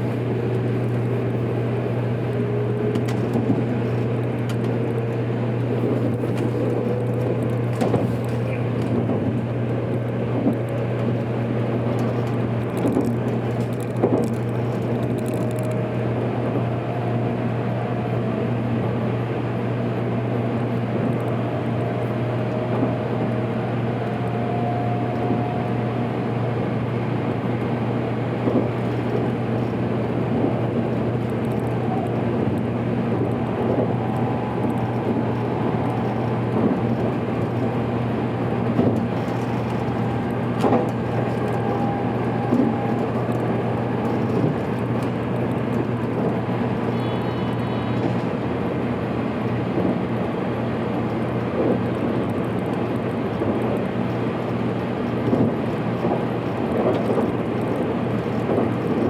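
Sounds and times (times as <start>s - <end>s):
faint drifting whine: 0.0s - 50.9s
train running hum: 0.0s - 59.0s.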